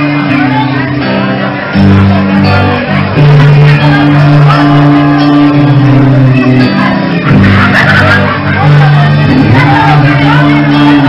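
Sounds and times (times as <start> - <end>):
live rock band playing: 0.0 - 11.0
person singing: 0.0 - 11.0.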